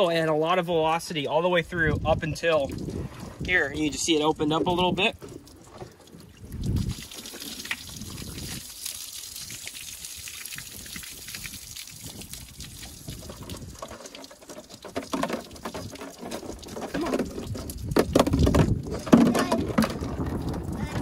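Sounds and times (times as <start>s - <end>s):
water trickling from jugs: 0.0s - 21.0s
plastic jugs knocking and sloshing: 1.8s - 9.7s, 10.6s - 21.0s.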